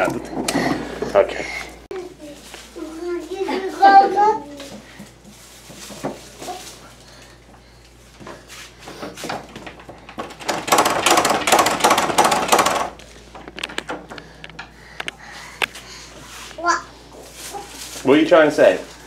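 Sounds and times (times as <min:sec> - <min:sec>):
rustling and crinkling: 0:00.0 - 0:10.4, 0:12.9 - 0:19.0.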